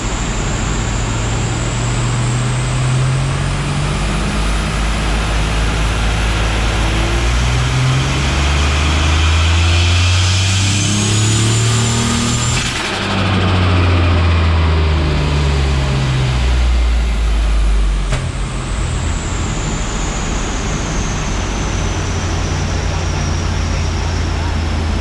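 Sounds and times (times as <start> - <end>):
car engine running under load: 0.0 - 25.0.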